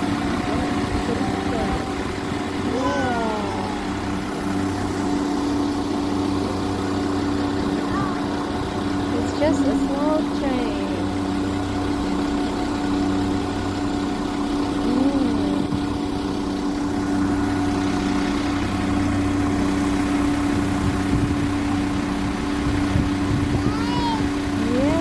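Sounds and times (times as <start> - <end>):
diesel train engine idling hum: 0.0 - 25.0.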